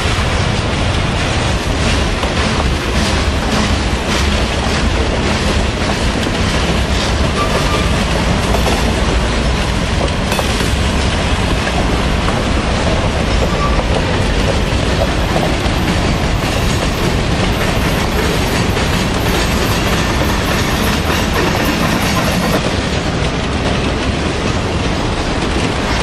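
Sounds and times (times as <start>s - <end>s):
train wheels clacking on rails: 0.0s - 26.0s.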